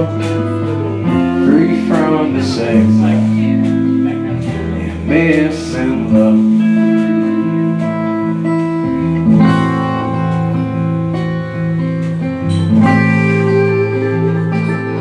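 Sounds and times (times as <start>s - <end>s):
acoustic guitar strumming: 0.0s - 15.0s
drums: 0.0s - 15.0s
electric guitar: 0.0s - 15.0s.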